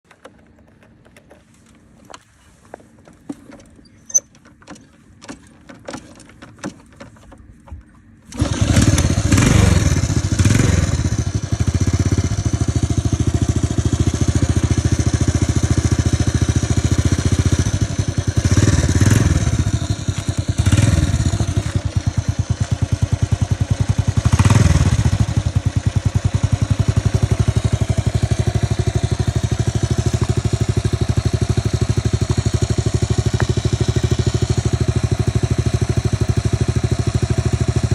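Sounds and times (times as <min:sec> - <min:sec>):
motorcycle engine putter: 0:00.0 - 0:36.9.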